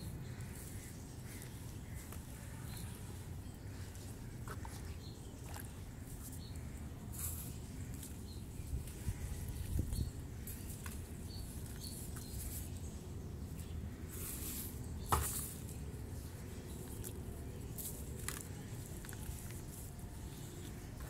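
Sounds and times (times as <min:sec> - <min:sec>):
sand patters and small splashes: 0:00.3 - 0:21.0.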